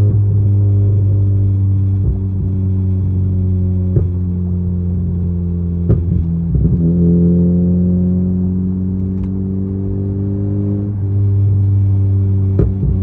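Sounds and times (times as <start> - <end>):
exhaust pops: 0.0 - 8.2, 8.8 - 13.0
car exhaust drone: 0.0 - 13.0.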